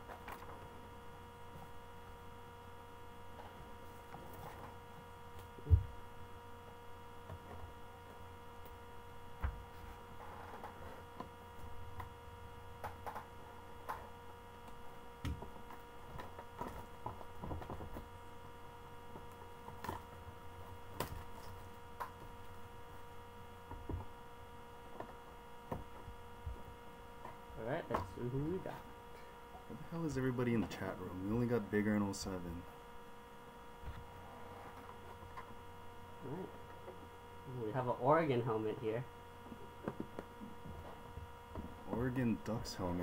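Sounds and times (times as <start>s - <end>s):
steady electrical hum: 0.0s - 43.0s.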